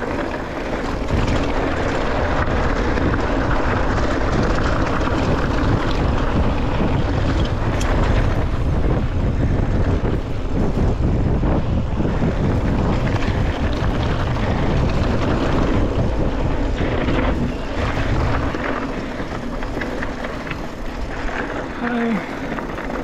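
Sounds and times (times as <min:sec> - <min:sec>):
bike tyres rolling over gravel: 0:00.0 - 0:23.0
small clicks and rattles: 0:00.0 - 0:23.0
wind rushing over microphone: 0:00.0 - 0:23.0.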